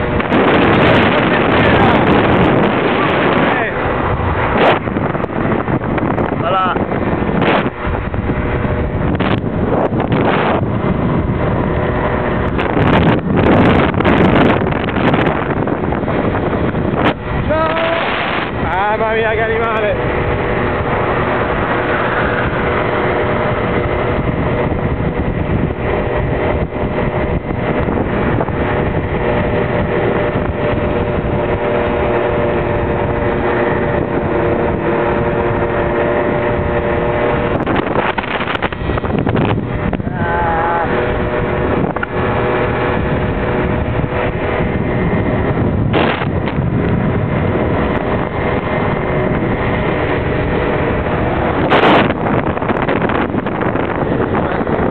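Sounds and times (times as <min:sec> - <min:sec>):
scooter engine running: 0:00.0 - 0:54.9
wind rushing over microphone: 0:00.0 - 0:54.9.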